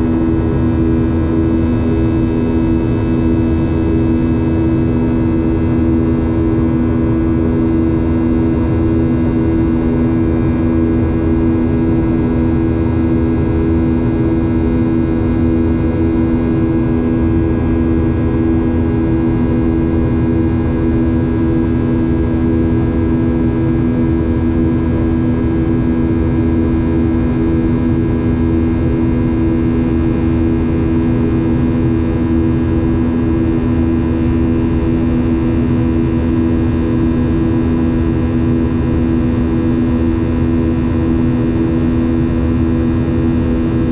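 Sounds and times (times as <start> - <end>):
airplane cabin engine hum: 0.0 - 43.9.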